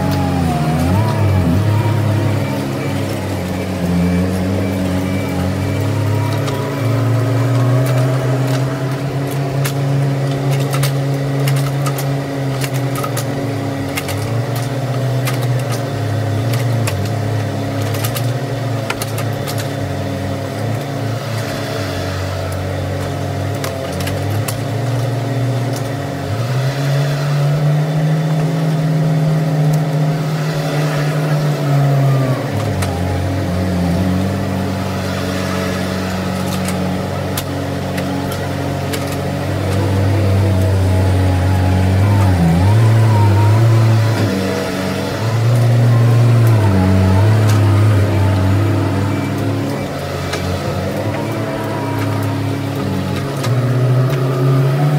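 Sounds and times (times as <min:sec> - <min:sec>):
mini excavator engine digging: 0:00.0 - 0:54.9.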